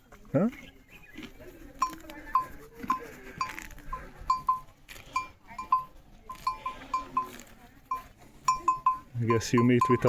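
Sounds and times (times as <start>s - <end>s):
small bells clinking: 1.8s - 10.0s.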